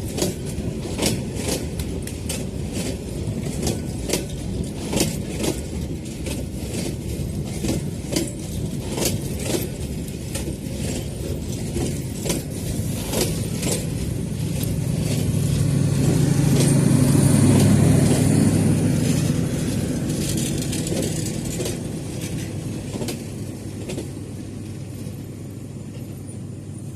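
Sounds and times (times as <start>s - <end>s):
train wheels clacking over joints: 0.0s - 26.4s
train rumble and hum: 0.0s - 26.9s.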